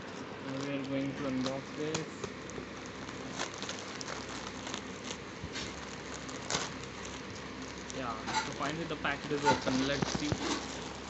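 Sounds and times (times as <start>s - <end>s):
packet crinkling and tearing: 0.4s - 11.0s.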